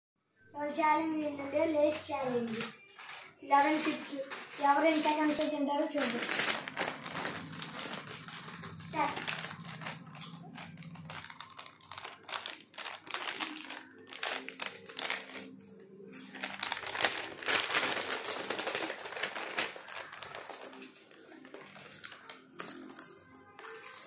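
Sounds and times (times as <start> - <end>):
potato chips crunching: 2.4 - 24.0.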